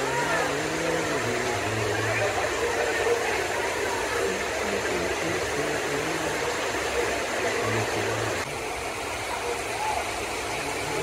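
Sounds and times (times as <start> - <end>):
heavy rain pouring on roofs: 0.0 - 11.0.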